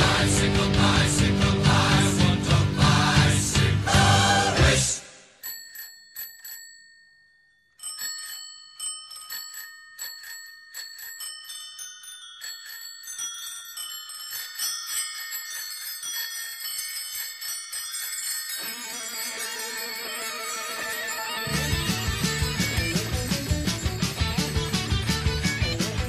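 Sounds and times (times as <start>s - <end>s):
bell-like chiming music: 0.0s - 26.0s.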